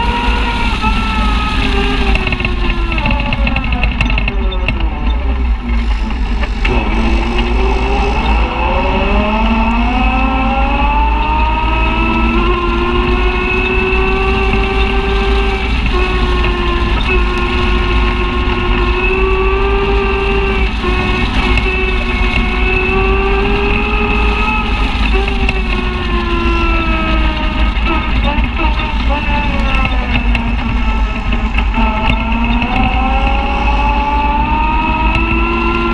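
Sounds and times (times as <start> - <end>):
utility vehicle engine revving: 0.0 - 35.9.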